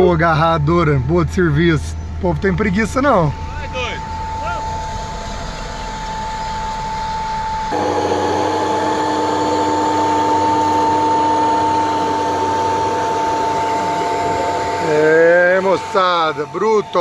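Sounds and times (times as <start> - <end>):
tractor hum and whine: 0.0 - 17.0.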